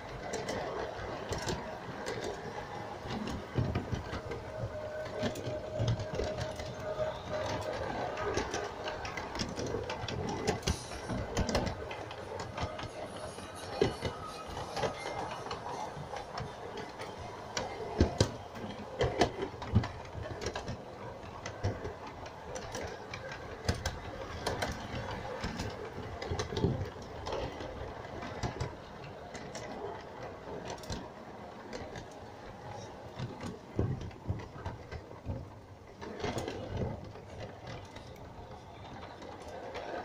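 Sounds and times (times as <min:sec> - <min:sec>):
wagons rattling: 0:00.0 - 0:40.0
wheels clicking over rail joints: 0:00.0 - 0:40.0.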